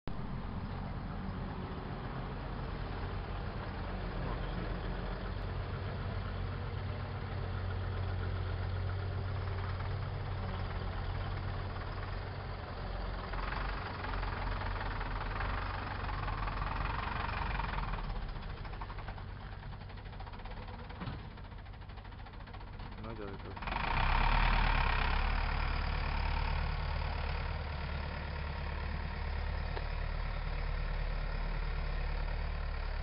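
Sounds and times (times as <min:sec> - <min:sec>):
combine harvester engine droning: 0:00.1 - 0:33.0
tractor engine: 0:00.1 - 0:33.0.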